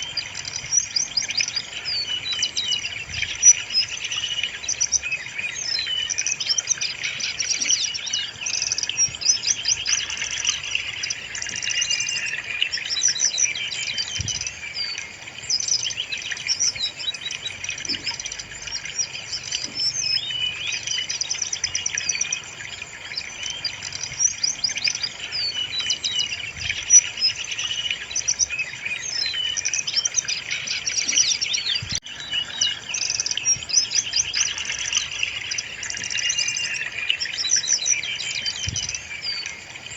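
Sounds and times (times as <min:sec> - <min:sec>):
bird singing trills: 0:00.0 - 0:39.9.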